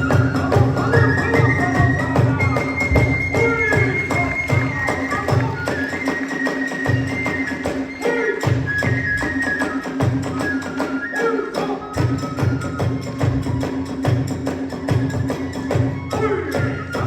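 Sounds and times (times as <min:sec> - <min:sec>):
drum beats: 0:00.0 - 0:17.0
flute melody: 0:00.0 - 0:17.0.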